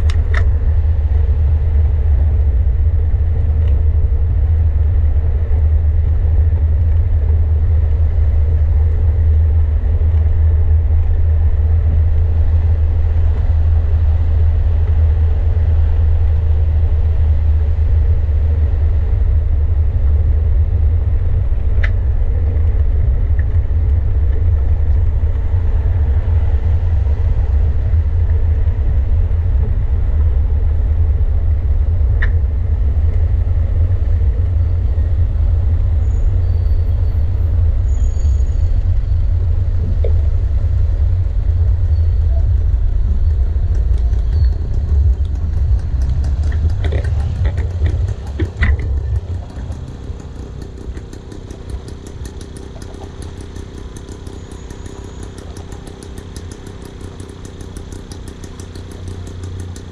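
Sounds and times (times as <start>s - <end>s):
wind buffeting microphone: 0.0s - 56.8s
road noise hiss: 0.0s - 59.9s.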